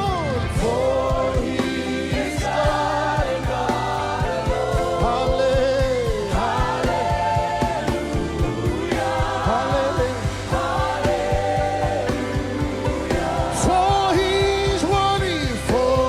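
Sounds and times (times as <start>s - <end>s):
band playing: 0.0s - 16.0s
choir singing: 0.3s - 16.0s.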